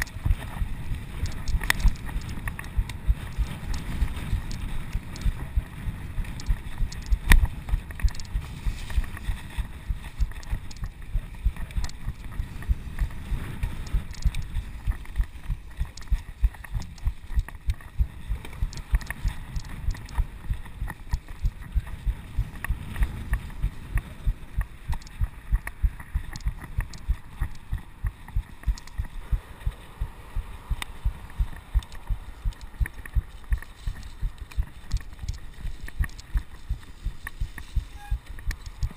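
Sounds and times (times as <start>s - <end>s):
bike clicks and knocks: 0.0s - 29.9s, 30.5s - 38.9s
low pedalling thumps: 0.0s - 38.9s
muffled rumble of tyres and wind: 0.0s - 38.9s.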